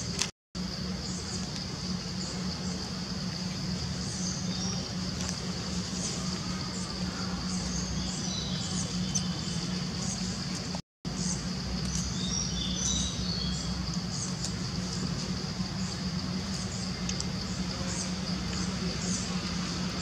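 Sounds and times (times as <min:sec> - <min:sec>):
low hum: 0:00.0 - 0:20.0
small birds chirping: 0:00.0 - 0:20.0.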